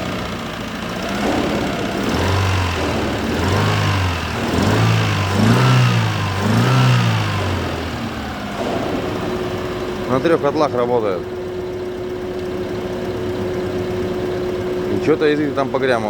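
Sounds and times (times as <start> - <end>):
rough car engine revving: 0.0 - 16.0.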